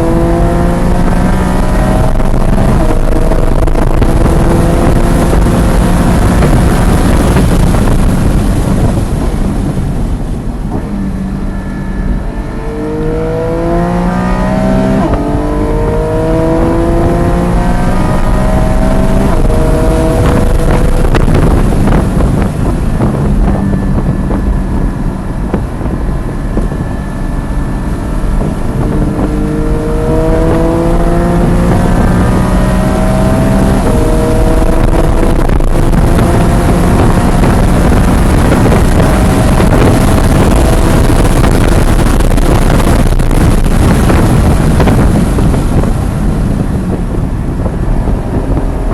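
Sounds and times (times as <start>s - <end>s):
car engine revving hard: 0.0s - 9.4s, 11.6s - 48.9s
wind noise: 0.0s - 48.9s.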